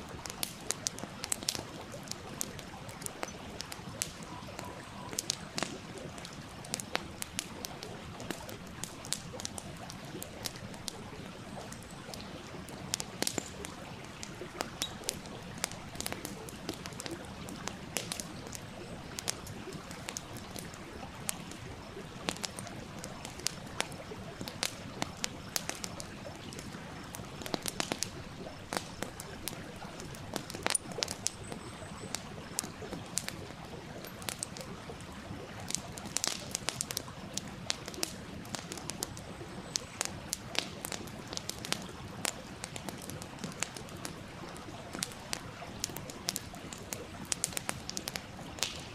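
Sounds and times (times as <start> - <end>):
campfire crackling: 0.0 - 48.9
small stream rushing: 0.0 - 48.9.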